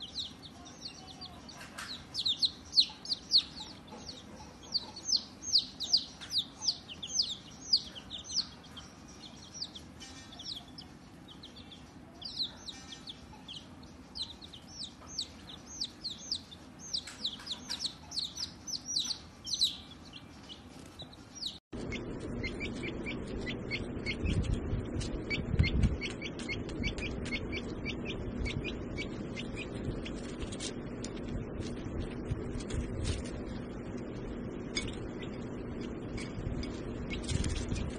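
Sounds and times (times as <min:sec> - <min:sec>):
baby chicks peeping: 0:00.0 - 0:37.9
low steady hum: 0:00.0 - 0:37.9.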